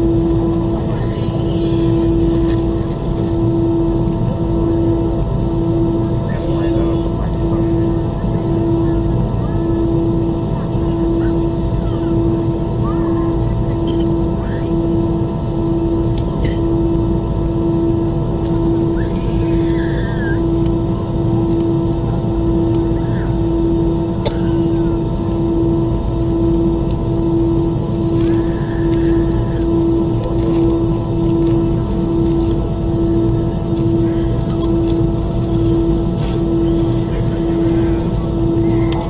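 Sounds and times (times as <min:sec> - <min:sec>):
jet engines idling in cabin: 0:00.0 - 0:39.0.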